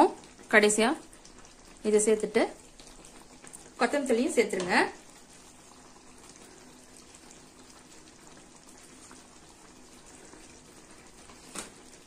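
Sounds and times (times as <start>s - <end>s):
gravy bubbling and crackling: 0.0s - 12.0s.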